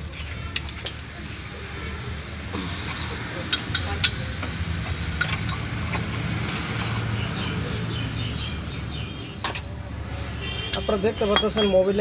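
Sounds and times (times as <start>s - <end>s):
birds chirping: 1.4s - 12.0s.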